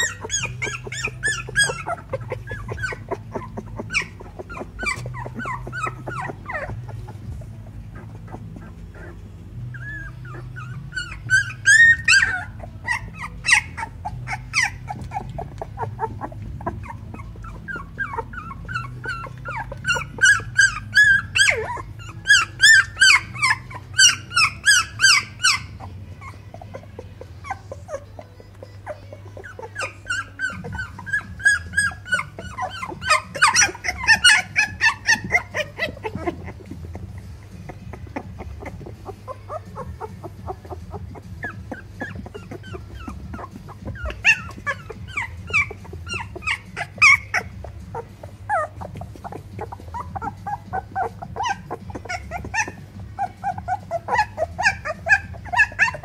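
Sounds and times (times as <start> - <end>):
puppies whimpering and squeaking: 0.0 - 56.0.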